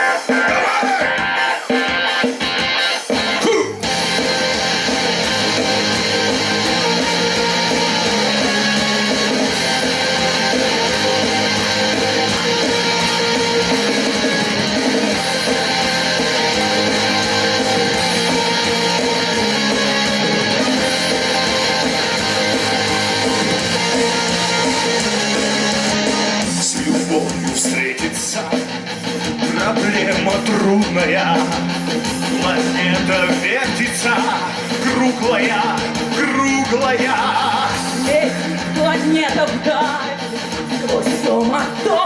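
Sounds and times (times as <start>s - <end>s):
instrumental pop backing track: 0.0s - 42.0s.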